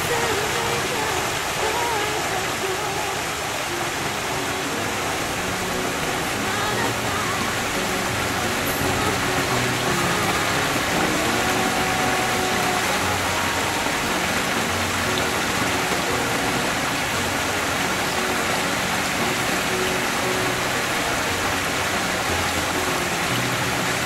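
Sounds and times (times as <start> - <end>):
waterfall splashing into pool: 0.0 - 24.0.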